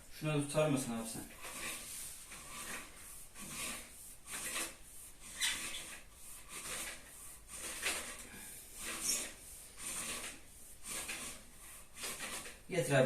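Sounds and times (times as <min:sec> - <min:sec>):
rubbing and scraping strokes: 0:00.0 - 0:13.0.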